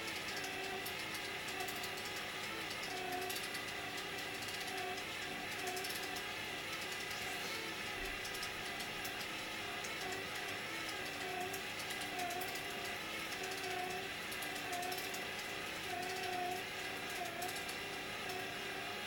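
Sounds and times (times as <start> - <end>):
motor and gears whining: 0.0 - 19.0.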